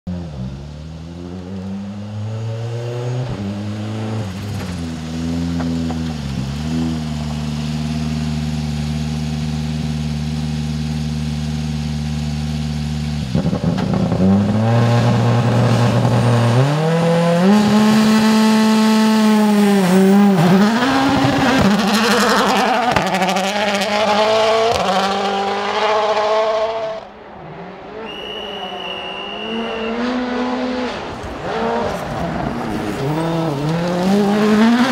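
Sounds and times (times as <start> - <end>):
rally car engine revving: 0.1 - 34.9.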